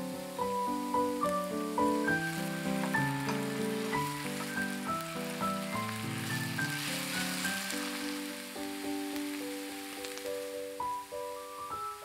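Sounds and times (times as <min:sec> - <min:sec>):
background music melody: 0:00.0 - 0:12.0
noodles sizzling in a pan: 0:00.0 - 0:12.0.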